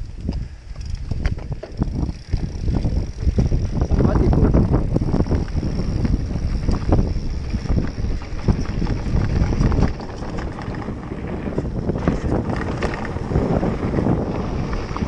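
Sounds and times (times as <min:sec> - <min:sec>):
bike tyres rolling on gravel: 0:00.0 - 0:15.0
wind buffeting microphone: 0:00.0 - 0:15.0
bike knocks and rattles: 0:00.2 - 0:15.0.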